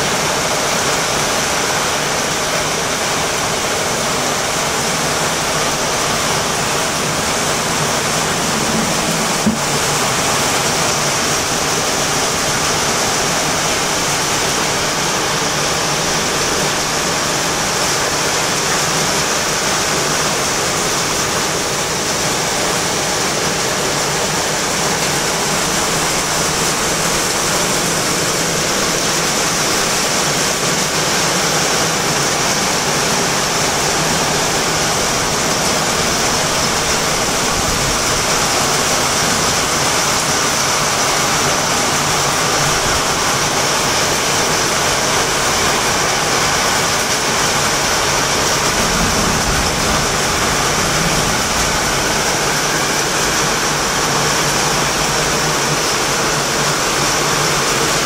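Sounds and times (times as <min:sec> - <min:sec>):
torrential rain: 0:00.0 - 0:58.0.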